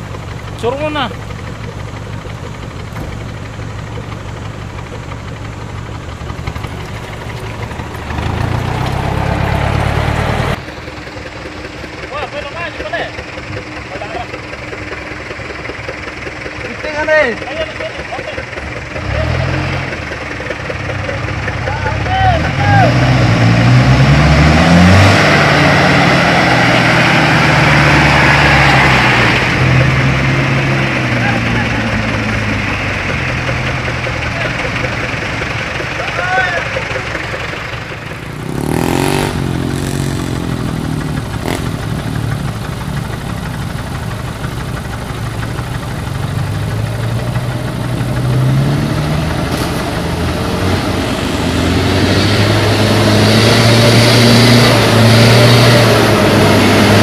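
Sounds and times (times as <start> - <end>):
diesel truck engine labouring: 0.0 - 57.0.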